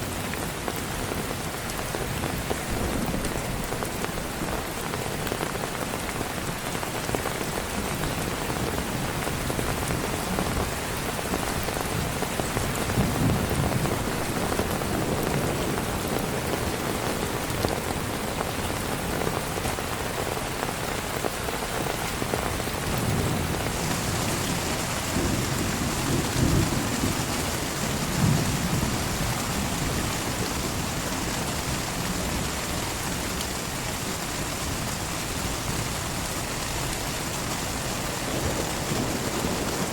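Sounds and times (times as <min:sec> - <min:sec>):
heavy rain falling: 0:00.0 - 0:39.9
thunder rumbling: 0:00.3 - 0:20.2, 0:21.8 - 0:33.3, 0:37.5 - 0:39.9.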